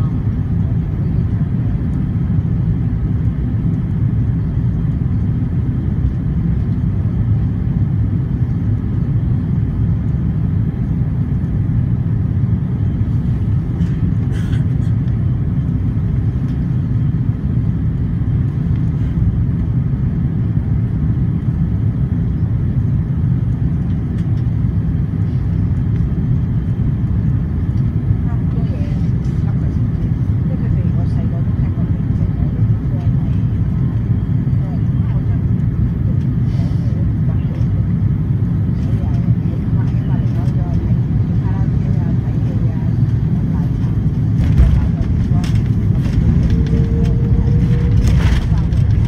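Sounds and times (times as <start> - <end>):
airliner cabin rumble: 0.0 - 49.0.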